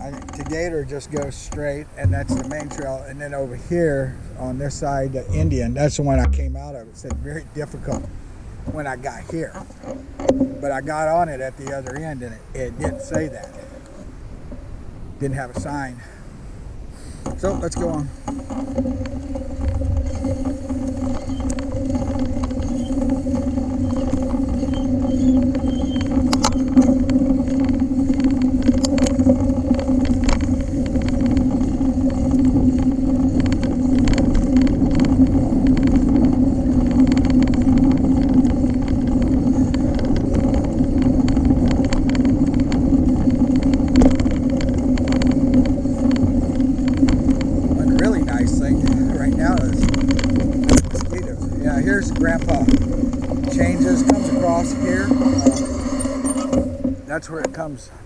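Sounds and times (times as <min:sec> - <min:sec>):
bike clicks and rattles: 0:00.0 - 0:16.2, 0:17.0 - 0:57.8
bike riding hum and rumble: 0:00.0 - 0:58.0.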